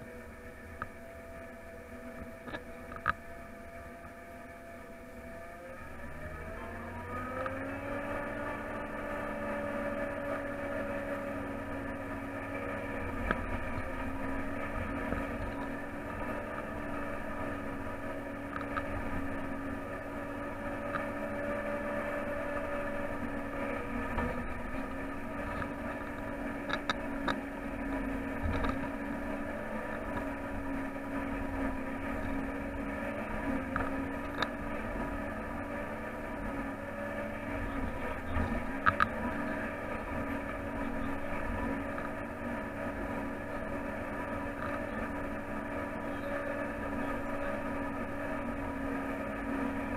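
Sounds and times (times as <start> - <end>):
harvester engine drone: 0.0 - 49.9.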